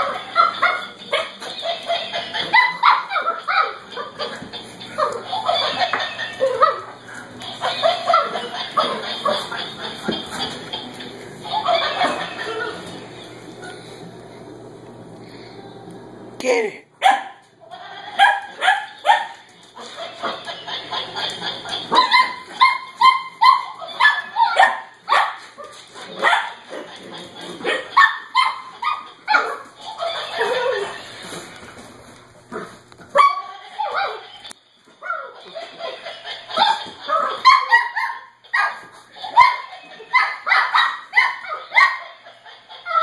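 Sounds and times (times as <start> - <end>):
puppies barking and yipping: 0.0 - 13.9, 17.0 - 43.0.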